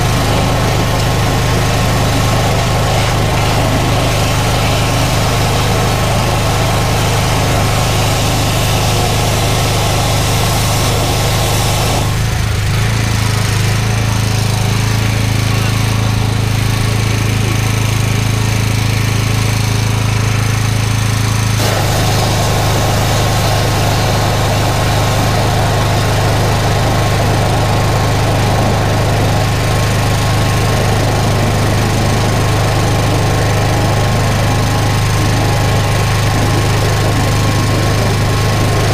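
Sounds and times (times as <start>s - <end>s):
machine engine running: 0.0s - 38.9s.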